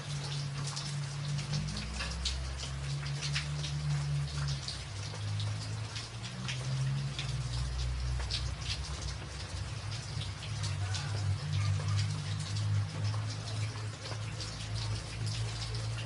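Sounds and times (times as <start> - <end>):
rain on a tin roof: 0.0 - 16.0.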